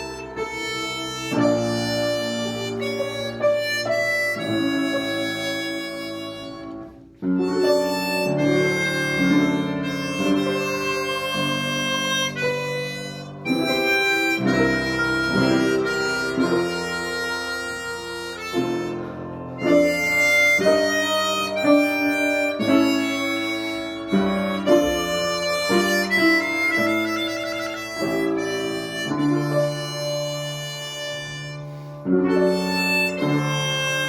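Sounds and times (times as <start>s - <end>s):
harmonica melody: 0.0s - 34.0s
piano accompaniment: 0.0s - 34.0s.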